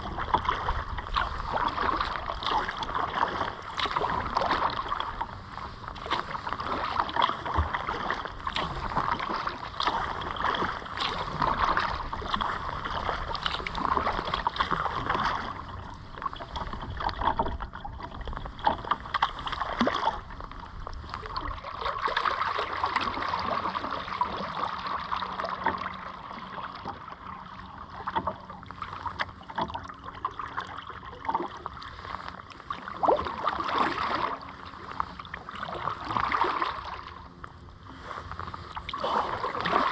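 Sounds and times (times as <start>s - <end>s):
rushing water: 0.0s - 32.1s, 32.9s - 37.4s, 38.0s - 39.9s
paddle strokes splashing: 0.0s - 39.9s.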